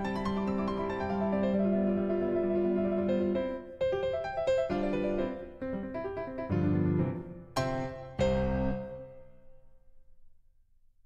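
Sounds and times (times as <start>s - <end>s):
piano chords: 0.0s - 10.0s.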